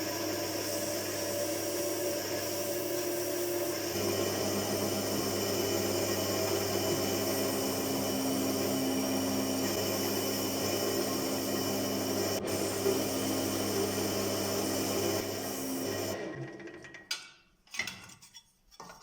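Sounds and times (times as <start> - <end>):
tool scraping spinning wood: 0.0 - 16.2
wood lathe motor hum: 0.0 - 16.5.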